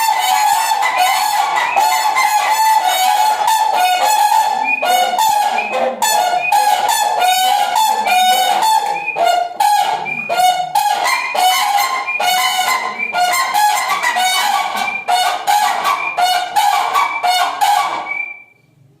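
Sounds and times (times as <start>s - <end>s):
crane honking calls: 0.0s - 18.4s.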